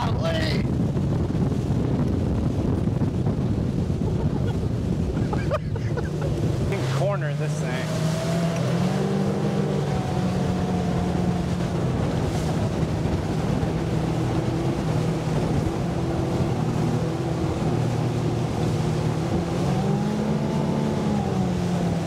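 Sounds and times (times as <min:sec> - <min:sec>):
steady rushing noise: 0:00.0 - 0:20.4
outboard motor running hard: 0:00.0 - 0:22.0.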